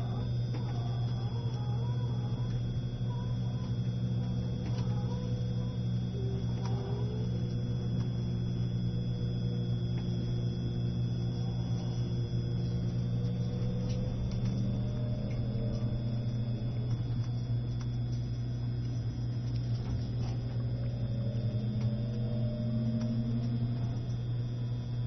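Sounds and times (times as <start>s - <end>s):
high-pitched whine: 0.0s - 25.0s
train low drone: 0.0s - 25.0s.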